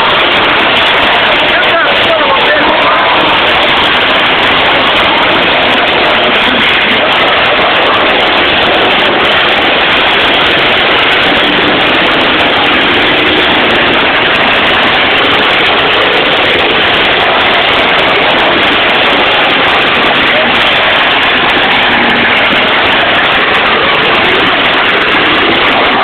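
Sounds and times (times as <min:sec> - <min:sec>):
car engines running hard: 0:00.0 - 0:26.0.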